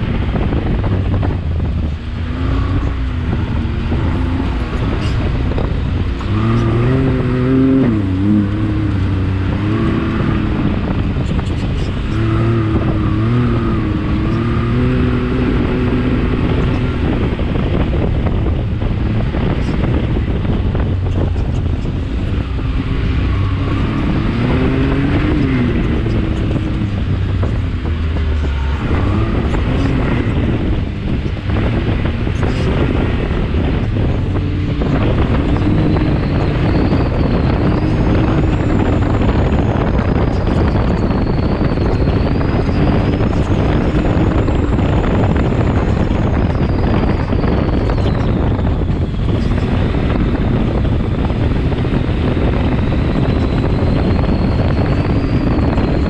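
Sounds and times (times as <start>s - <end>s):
engine running under load: 0.0s - 56.0s
wind noise on microphone: 0.0s - 56.0s.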